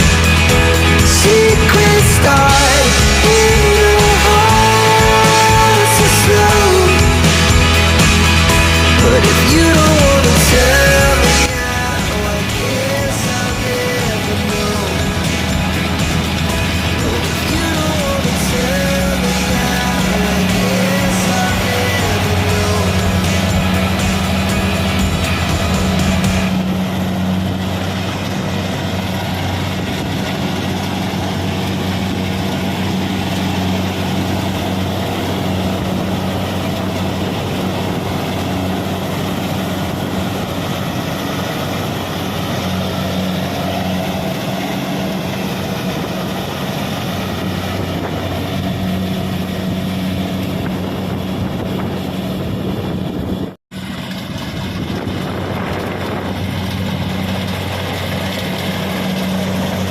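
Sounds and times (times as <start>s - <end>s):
diesel engine low drone: 0.0s - 59.9s.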